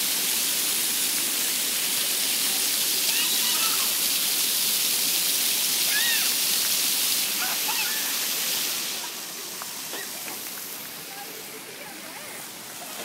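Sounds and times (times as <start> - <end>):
water fountain jets splashing: 0.0 - 13.0.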